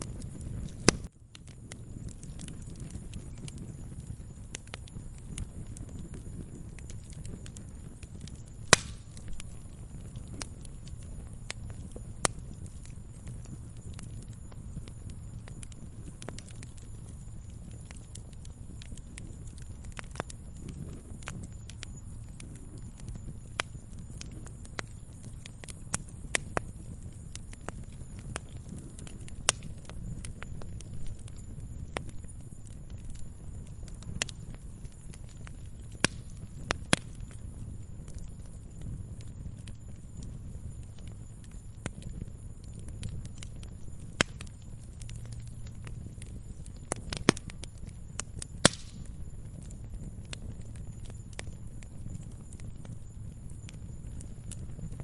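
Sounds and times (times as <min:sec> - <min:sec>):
sharp pops of fire: 0:00.0 - 0:55.0
wood fire rumbling: 0:00.0 - 0:55.0.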